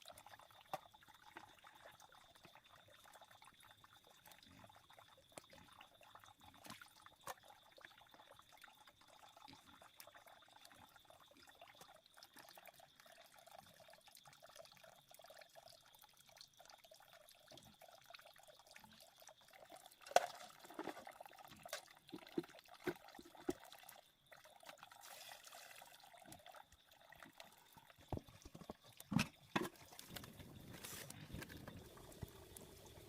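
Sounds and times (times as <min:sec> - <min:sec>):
faint water: 0:00.0 - 0:33.0.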